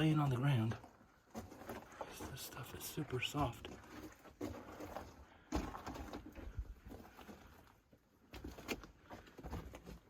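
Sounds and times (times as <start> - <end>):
footsteps crunching on loose rock: 0.0 - 10.0.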